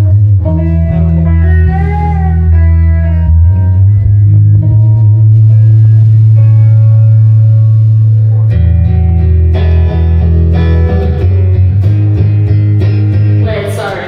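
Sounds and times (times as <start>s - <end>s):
bass guitar: 0.0s - 14.0s
electric guitar held notes: 0.0s - 14.0s.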